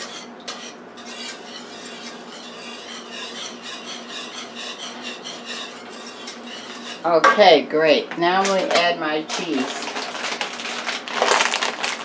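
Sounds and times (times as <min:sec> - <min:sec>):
whisk scraping metal skillet: 0:00.0 - 0:10.8.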